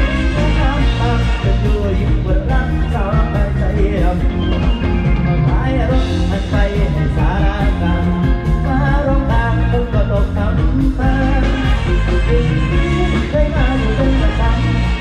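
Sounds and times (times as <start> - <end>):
live band playing: 0.0 - 15.0
plucked electric bass: 0.0 - 15.0.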